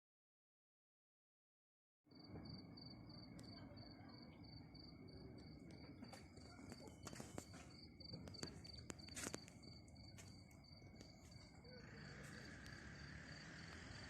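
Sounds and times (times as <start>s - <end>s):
crickets chirping: 2.1s - 14.0s.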